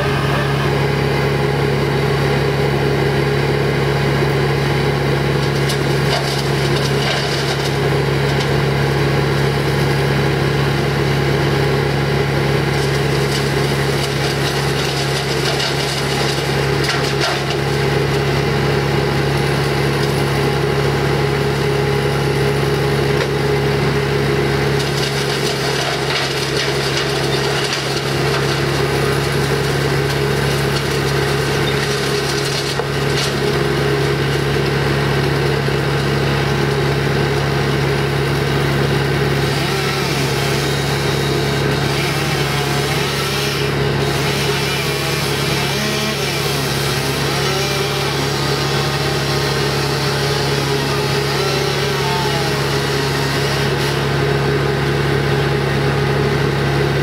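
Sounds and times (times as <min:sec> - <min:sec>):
wood chipper engine running: 0:00.0 - 0:57.0
wood being crushed and splintered: 0:05.1 - 0:54.6.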